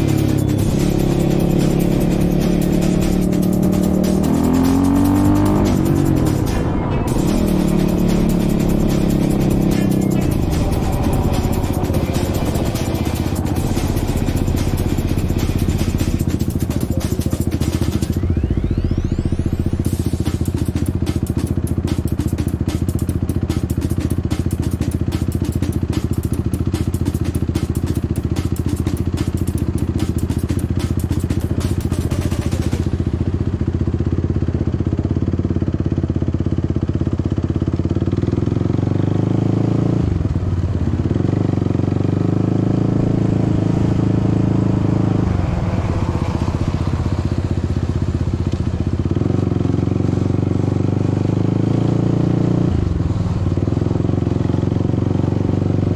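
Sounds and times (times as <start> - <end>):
quad engine idling and revving: 0.0 - 55.9.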